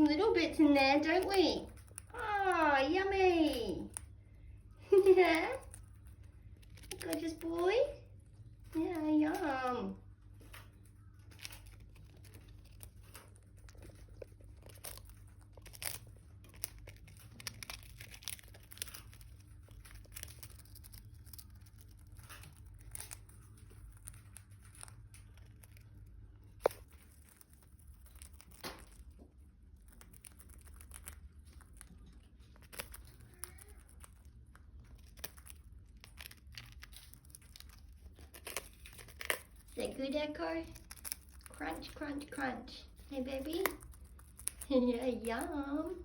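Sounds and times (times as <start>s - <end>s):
parrots crunching crackers: 0.0s - 46.0s.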